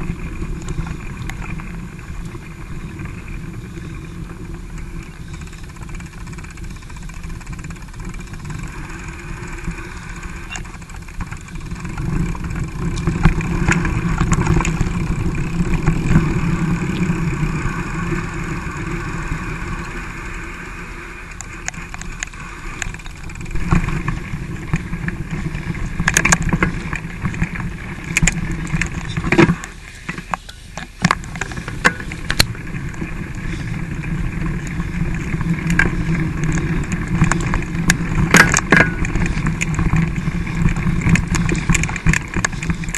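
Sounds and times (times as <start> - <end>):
bike tyres rumbling on dirt: 0.0 - 42.9
bike knocks and rattles: 4.8 - 18.1, 21.5 - 42.9.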